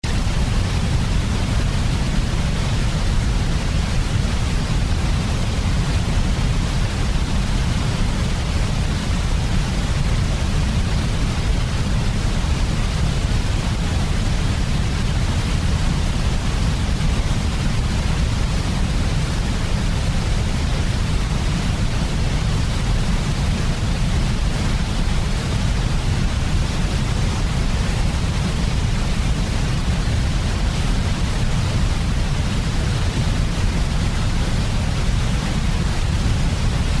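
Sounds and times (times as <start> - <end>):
steady low hiss sleep noise: 0.0 - 37.0.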